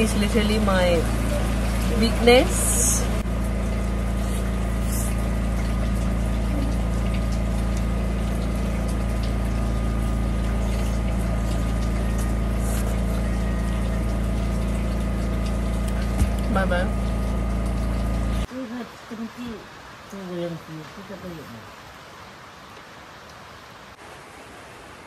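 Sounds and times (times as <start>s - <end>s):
low mechanical hum: 0.0s - 20.3s.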